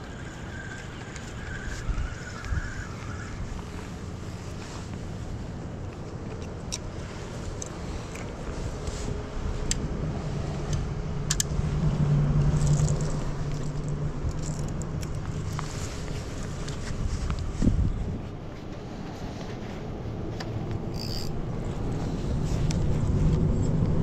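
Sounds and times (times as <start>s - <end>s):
passing engine hum: 0.0s - 24.0s.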